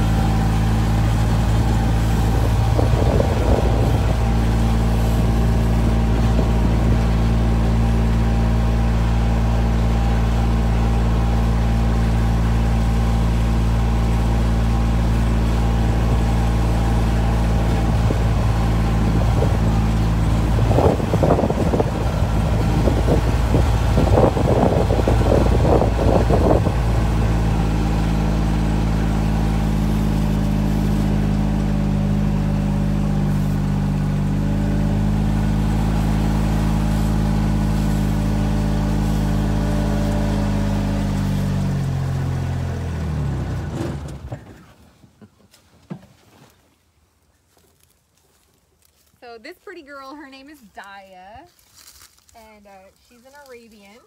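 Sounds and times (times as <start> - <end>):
vehicle engine running: 0.0 - 45.3, 47.5 - 54.0.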